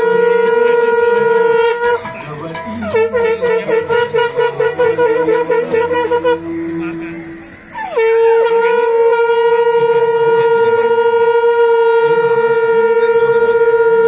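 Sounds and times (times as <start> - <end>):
conch shell blast: 0.0 - 14.0
loud pulsing conch note: 0.0 - 14.0
low conch note: 0.0 - 14.0.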